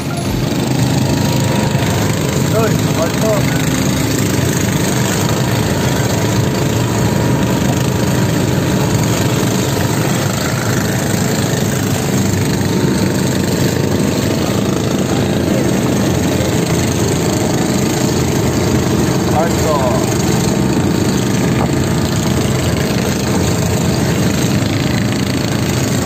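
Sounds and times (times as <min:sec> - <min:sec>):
boat engine running: 0:00.0 - 0:26.0
water rushing along hull: 0:00.0 - 0:26.0.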